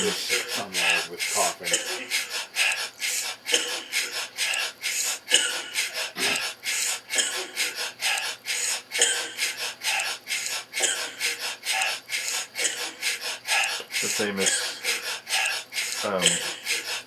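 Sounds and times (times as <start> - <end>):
rhythmic coughing beat: 0.0 - 17.0.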